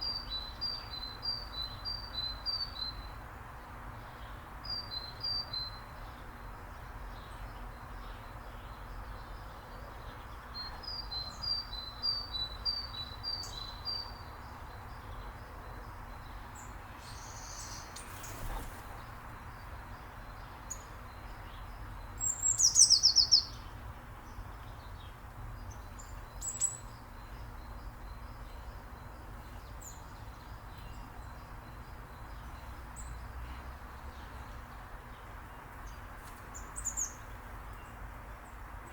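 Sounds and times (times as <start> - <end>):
small birds chirping: 4.1 - 38.9.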